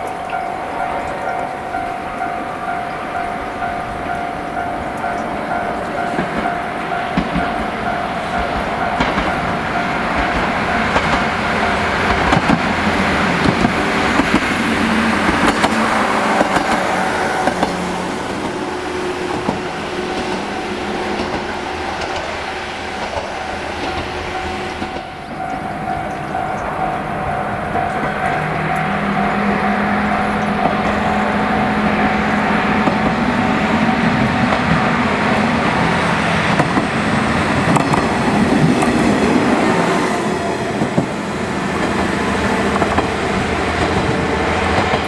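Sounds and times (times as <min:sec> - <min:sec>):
train wheels clacking on rail joints: 0:00.0 - 0:45.0.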